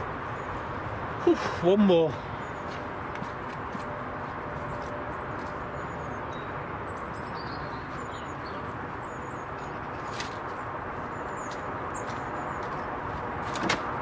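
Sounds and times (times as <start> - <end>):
small birds chirping: 0.0 - 13.4
outdoor background hiss: 0.0 - 14.0.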